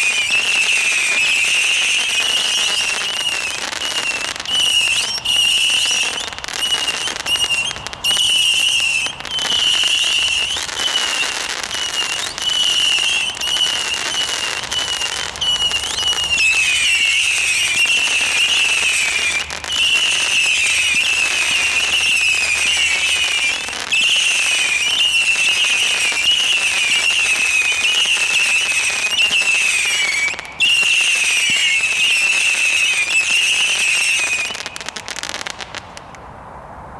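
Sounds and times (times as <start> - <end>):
whistling firework shots: 0.0 - 36.2.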